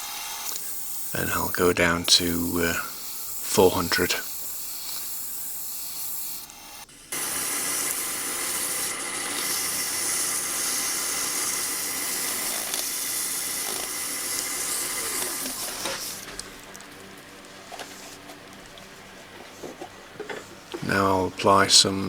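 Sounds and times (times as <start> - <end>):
sandpaper on spinning wood lathe: 0.0 - 21.2.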